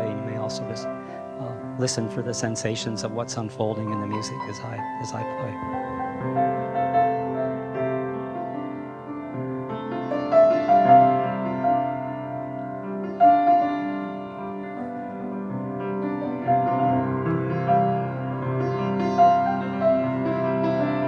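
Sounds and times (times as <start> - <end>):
solo piano piece: 0.0 - 21.0.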